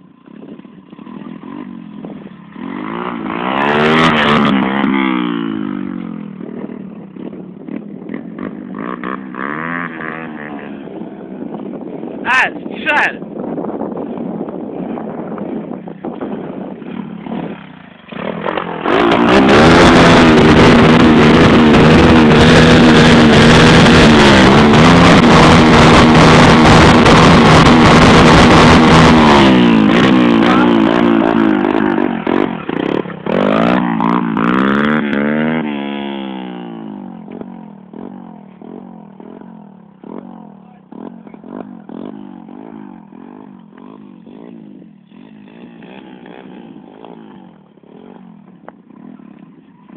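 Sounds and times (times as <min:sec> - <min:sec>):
dirt bike engine revving: 0:00.7 - 0:49.9.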